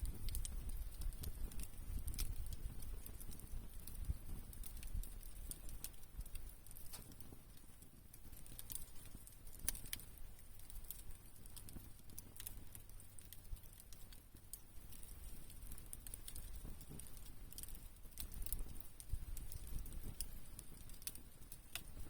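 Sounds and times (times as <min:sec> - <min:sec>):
wood campfire crackling: 0:00.0 - 0:22.0.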